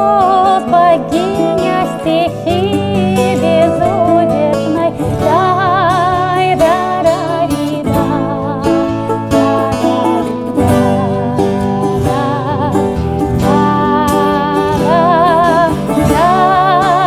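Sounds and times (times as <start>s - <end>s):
acoustic guitar playing: 0.0s - 17.0s
plucked bouzouki: 0.0s - 17.0s
woman singing with vibrato: 0.0s - 17.0s.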